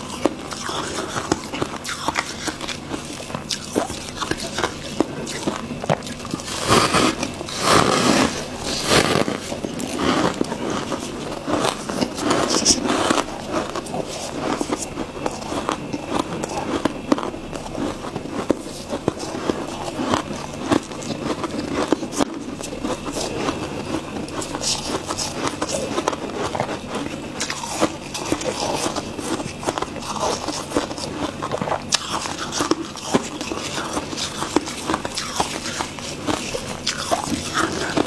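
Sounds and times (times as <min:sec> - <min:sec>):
faint low hum: 0:00.0 - 0:38.0
frost being chewed with crunches: 0:00.0 - 0:38.0.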